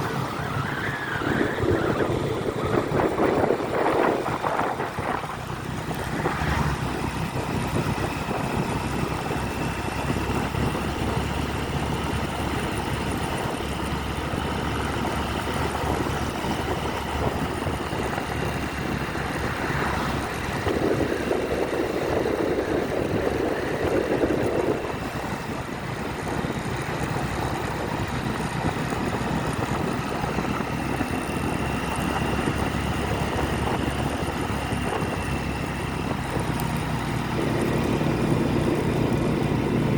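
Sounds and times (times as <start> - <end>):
motorcycle engine rumble: 0.0 - 39.9
wind noise on microphone: 0.0 - 39.9.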